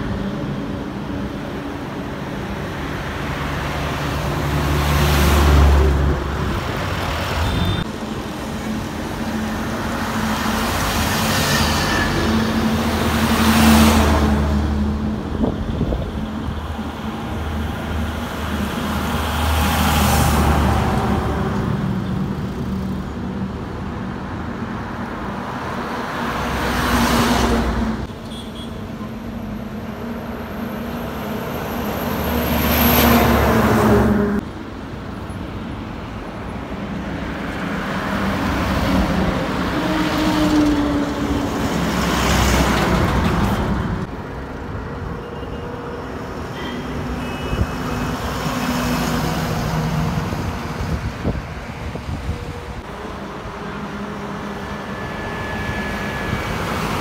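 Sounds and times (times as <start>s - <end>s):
diesel lorries passing: 0.0s - 28.1s, 28.9s - 57.0s.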